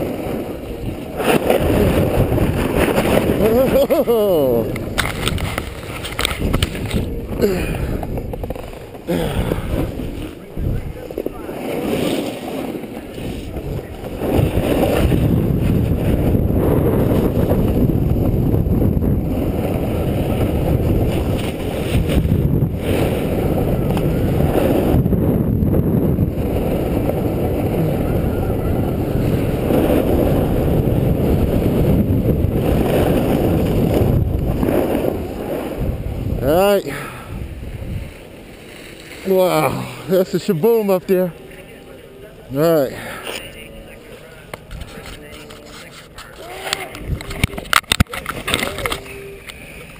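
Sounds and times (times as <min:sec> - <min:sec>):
wind on microphone: 0:00.0 - 0:41.1, 0:42.7 - 0:49.9
snowboard scraping on snow: 0:00.0 - 0:41.3.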